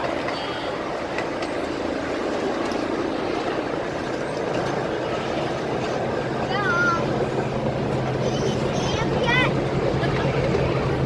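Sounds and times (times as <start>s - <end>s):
moving train rumble: 0.0s - 11.0s.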